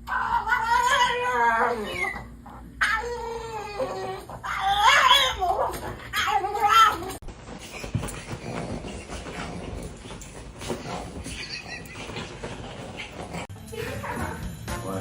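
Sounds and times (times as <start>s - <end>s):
dog whining: 0.0s - 13.4s.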